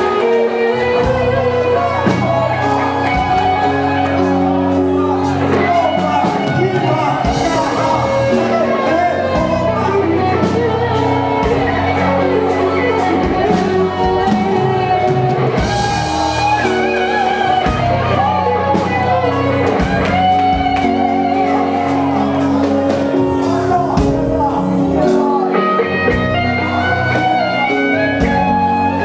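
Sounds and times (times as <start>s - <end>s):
band playing worship music: 0.0s - 29.0s
voices singing along: 0.0s - 29.0s.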